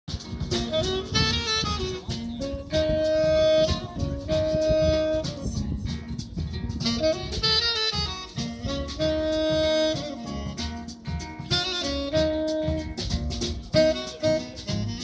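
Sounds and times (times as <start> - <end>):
plucked double bass: 0.1 - 15.0
tenor saxophone melody: 0.2 - 6.1, 6.7 - 15.0.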